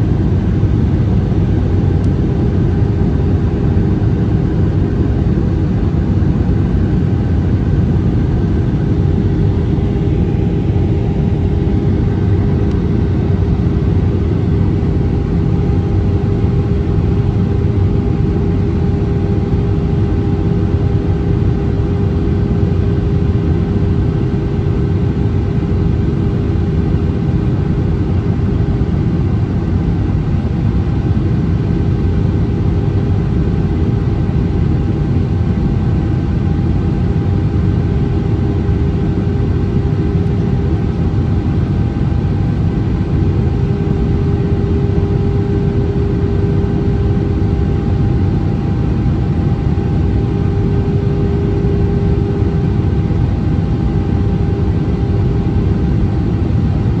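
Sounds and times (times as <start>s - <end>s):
aircraft cabin engine roar: 0.0s - 57.0s
constant humming tones: 0.0s - 57.0s.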